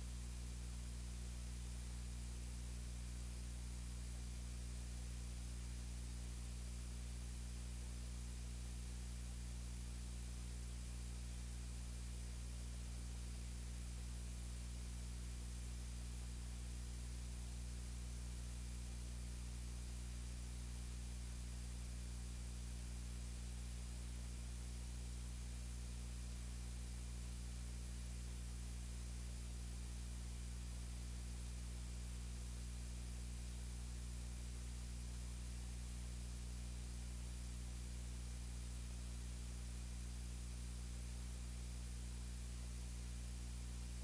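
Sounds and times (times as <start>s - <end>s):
constant hiss: 0.0s - 44.0s.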